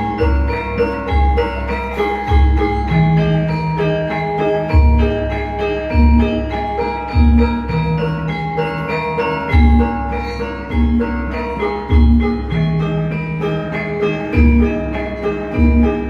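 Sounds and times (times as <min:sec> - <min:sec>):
metallophone notes ringing: 0:00.0 - 0:16.0.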